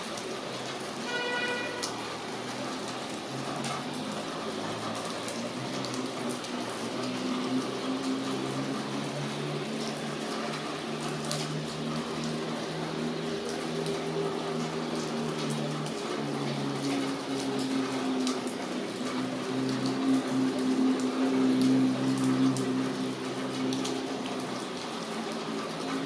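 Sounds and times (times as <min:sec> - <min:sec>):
steady rain: 0:00.0 - 0:26.0
water running and splashing: 0:00.0 - 0:26.0.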